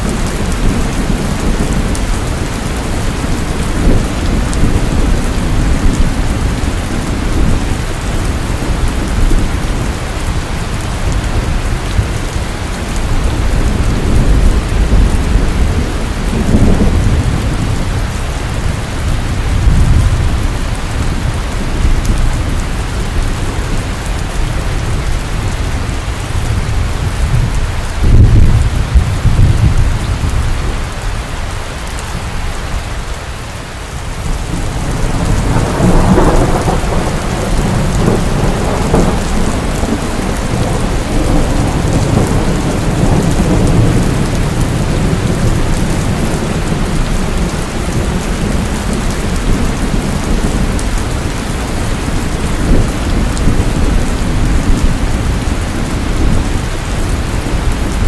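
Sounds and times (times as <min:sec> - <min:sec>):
rolling thunder: 0:00.0 - 0:31.0, 0:34.0 - 0:58.0
heavy rain: 0:00.0 - 0:58.0.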